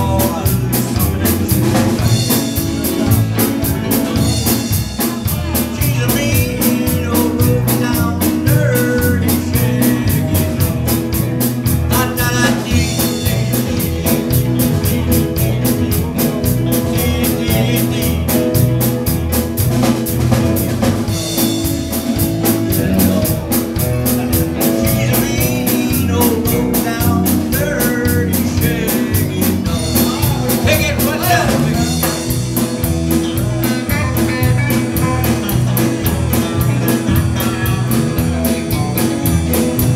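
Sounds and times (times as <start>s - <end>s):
drum kit beat: 0.0s - 39.9s
live rockabilly band: 0.0s - 39.9s.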